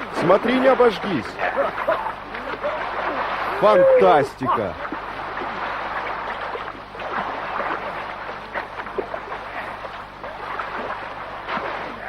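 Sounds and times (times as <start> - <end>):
small water splashes: 0.0 - 12.0
water churning: 0.0 - 12.0.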